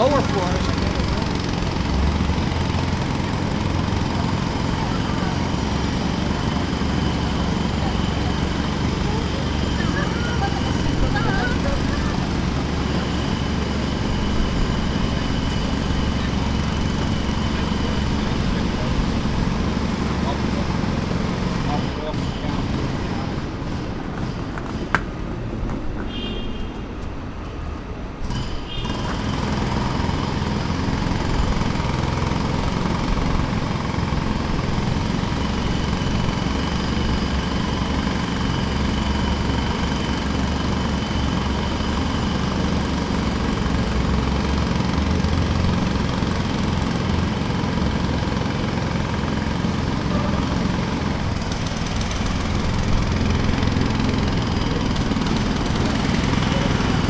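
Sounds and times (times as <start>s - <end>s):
jackhammer rattling: 0.0s - 25.2s, 28.2s - 57.0s
engine drone: 0.0s - 57.0s.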